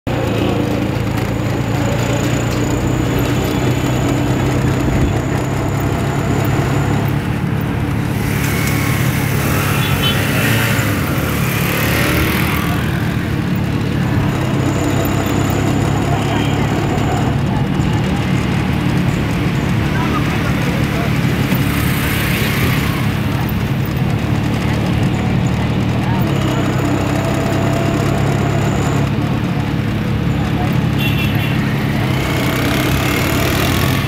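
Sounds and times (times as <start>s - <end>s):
street traffic: 0.0s - 34.0s
vehicle engine running: 0.0s - 34.0s.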